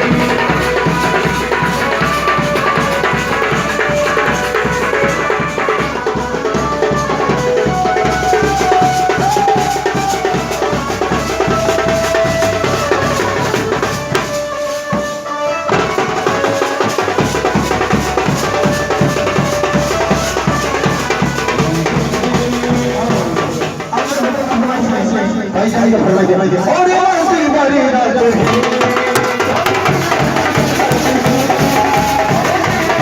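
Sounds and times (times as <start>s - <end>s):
band melody line: 0.0s - 33.0s
fast heavy drumming: 0.0s - 33.0s.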